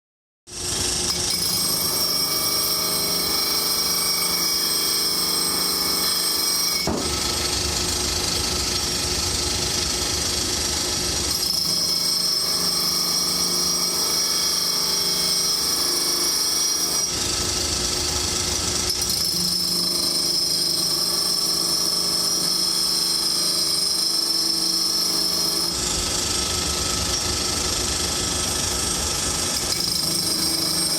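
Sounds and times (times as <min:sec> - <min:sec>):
lathe high-pitched whine: 0:00.5 - 0:30.9.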